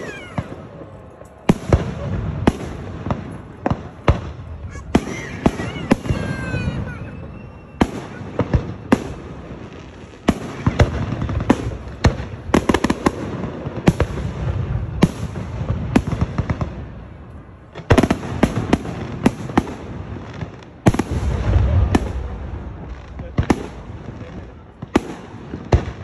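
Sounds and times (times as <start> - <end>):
fireworks bangs: 0.0 - 26.0
fireworks rumble: 0.0 - 26.0.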